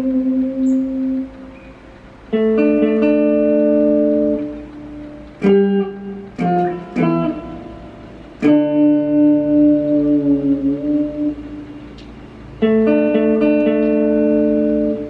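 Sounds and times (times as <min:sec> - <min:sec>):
electric guitar playing: 0:00.0 - 0:15.0.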